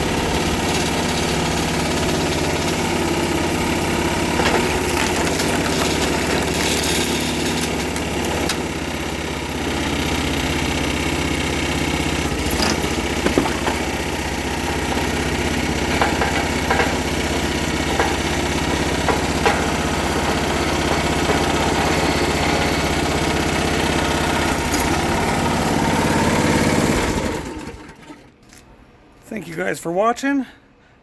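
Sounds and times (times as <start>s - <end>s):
log splitter engine running: 0.0s - 28.6s.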